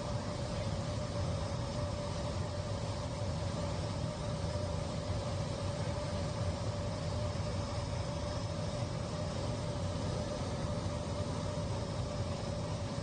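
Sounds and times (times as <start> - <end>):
airliner cabin drone: 0.0 - 13.0
steady mid-pitched hum: 0.0 - 13.0.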